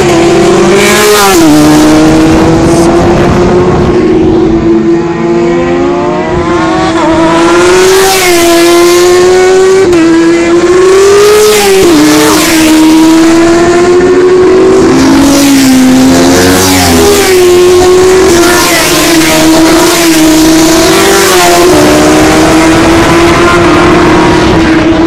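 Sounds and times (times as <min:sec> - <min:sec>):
racing motorcycle at full throttle: 0:00.0 - 0:25.0.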